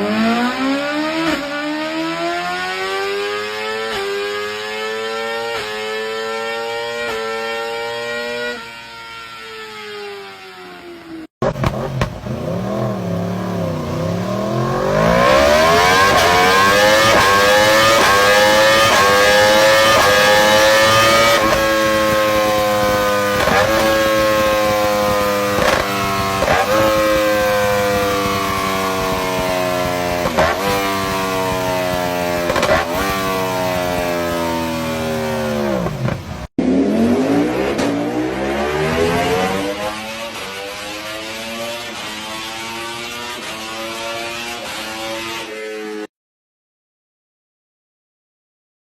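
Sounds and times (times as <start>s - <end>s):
motorcycle engine revving: 0.0s - 9.9s, 10.6s - 46.1s.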